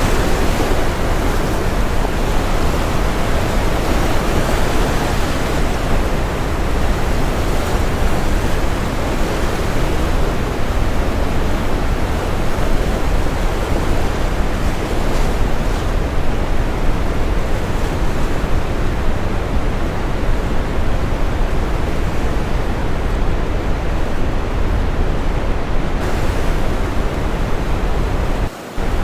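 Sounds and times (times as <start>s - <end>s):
brown noise hiss: 0.0s - 29.0s
ocean waves breaking: 0.0s - 29.0s.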